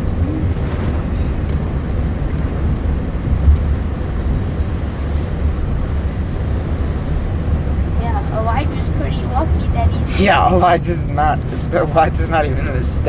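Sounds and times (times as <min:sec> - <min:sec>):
car driving interior rumble: 0:00.0 - 0:13.0.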